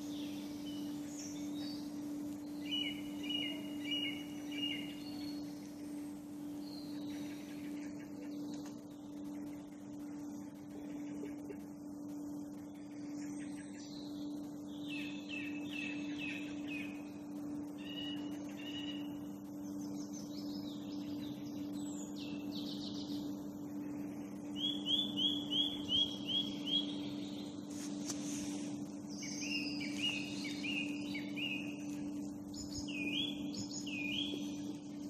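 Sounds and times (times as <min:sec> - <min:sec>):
songbirds singing: 0:00.0 - 0:35.0
steady low hum: 0:00.0 - 0:35.0.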